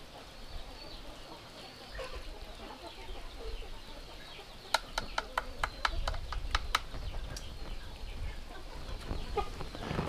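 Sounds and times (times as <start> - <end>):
chickens clucking: 0.0 - 10.0
faint bird chirps: 0.0 - 10.0.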